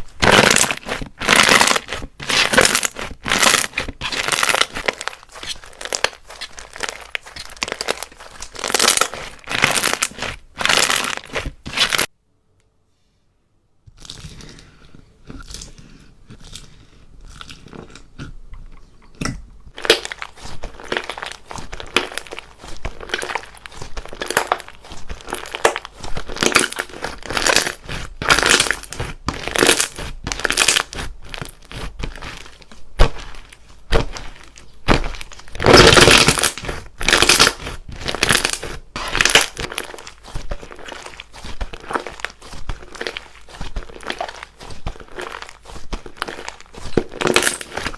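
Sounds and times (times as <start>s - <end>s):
crunchy slime being squished: 0.0s - 12.1s, 13.9s - 18.7s, 19.7s - 47.9s.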